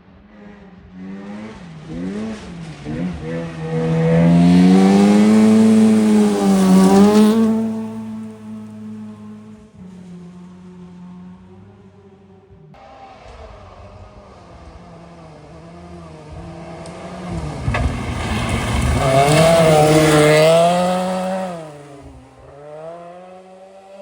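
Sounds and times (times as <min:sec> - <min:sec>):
rally car engine passing: 0:00.0 - 0:24.0.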